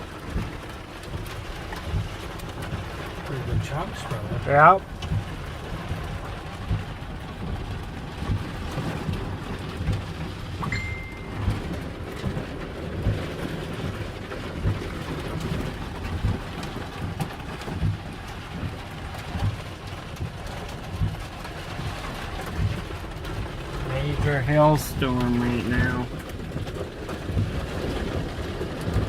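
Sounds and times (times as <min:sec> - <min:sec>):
hailstones thudding: 0:00.0 - 0:29.0
heavy rain hissing on vehicle: 0:00.0 - 0:29.0.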